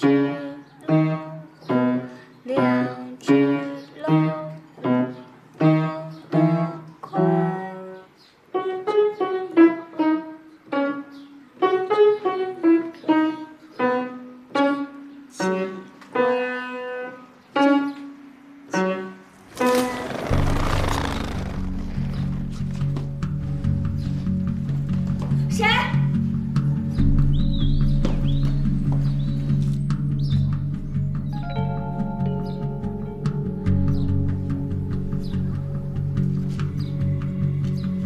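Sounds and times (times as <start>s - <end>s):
piano playing light melody: 0.0s - 20.0s, 21.6s - 38.0s.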